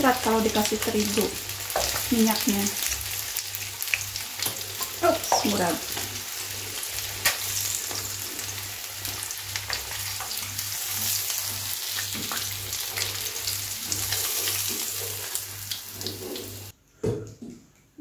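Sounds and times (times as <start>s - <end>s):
chicken frying in hot oil: 0.0s - 16.8s.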